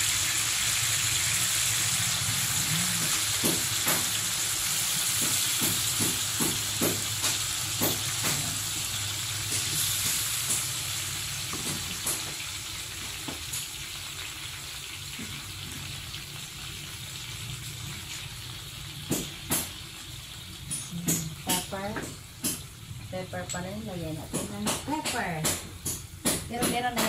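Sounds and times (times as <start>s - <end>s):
meat sizzling in a wok: 0.0s - 27.0s.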